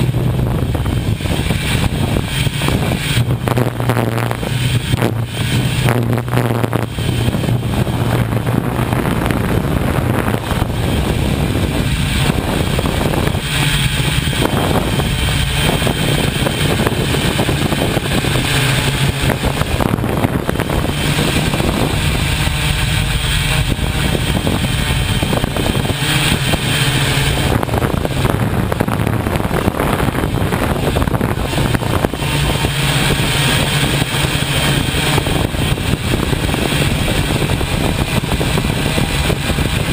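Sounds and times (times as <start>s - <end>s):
low engine hum: 0.0s - 39.9s
rushing noise: 0.0s - 39.9s.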